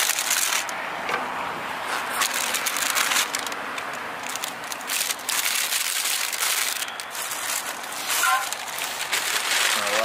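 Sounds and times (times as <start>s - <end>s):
plastic packaging crinkling: 0.0s - 0.8s, 1.8s - 10.0s.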